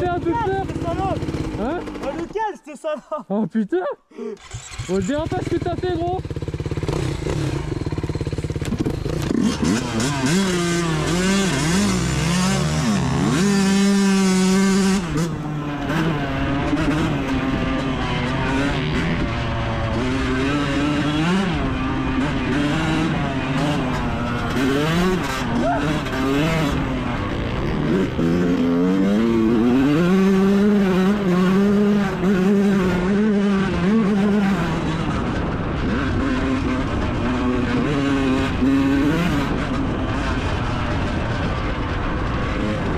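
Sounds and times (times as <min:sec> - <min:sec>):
two-stroke dirt bike engine revving: 0:00.0 - 0:02.4, 0:04.4 - 0:42.9.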